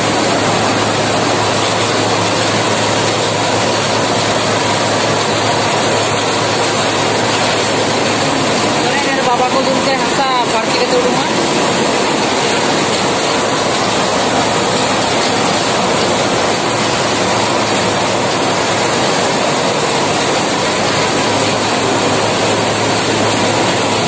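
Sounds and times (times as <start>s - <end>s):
grain mill machinery din: 0.0s - 24.0s.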